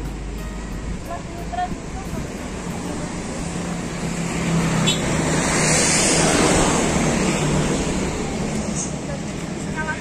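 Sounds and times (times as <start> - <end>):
vehicle passing by: 1.4 - 10.0.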